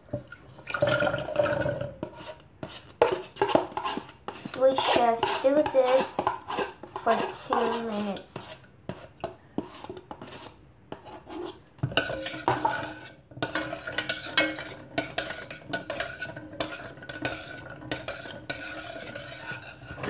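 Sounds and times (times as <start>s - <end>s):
spoon clinking and scraping pan: 0.2s - 20.0s.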